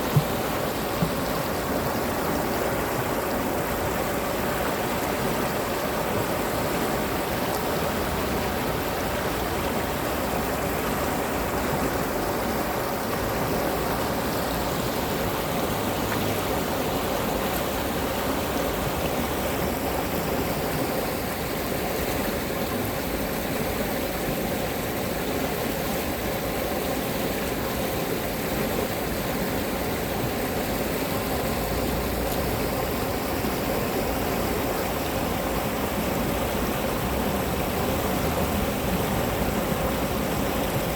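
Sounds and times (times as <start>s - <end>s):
stream of running water: 0.0s - 40.9s.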